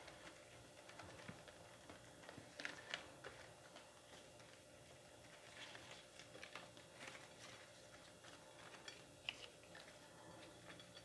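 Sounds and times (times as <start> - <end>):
banana leaf crinkling: 0.0 - 10.0.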